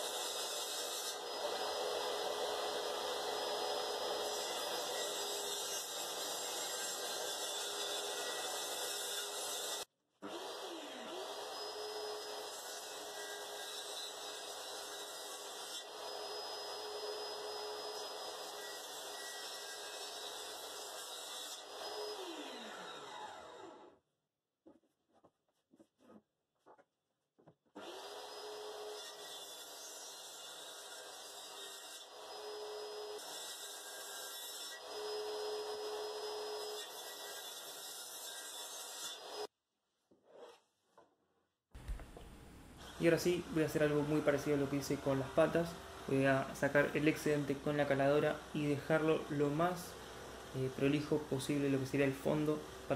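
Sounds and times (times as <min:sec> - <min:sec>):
circular saw cutting wood: 0:00.0 - 0:24.0, 0:27.8 - 0:39.5, 0:42.8 - 0:52.9.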